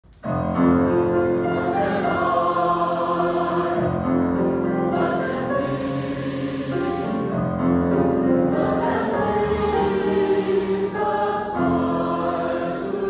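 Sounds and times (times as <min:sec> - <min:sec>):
choir singing held chords: 0:00.7 - 0:13.0.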